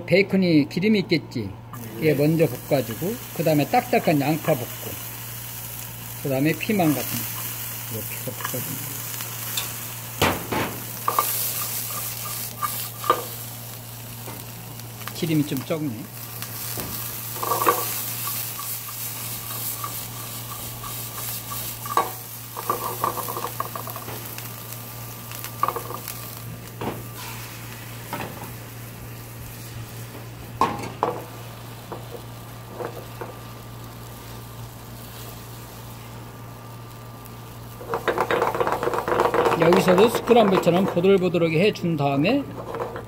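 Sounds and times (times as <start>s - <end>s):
food sizzling in a frying pan: 1.8s - 43.0s.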